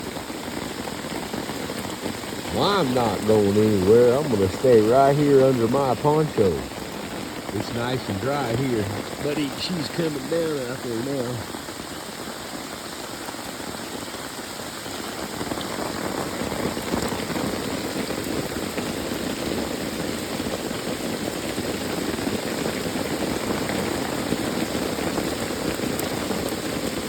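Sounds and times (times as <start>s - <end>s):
heavy rain on a poncho: 0.0s - 27.0s.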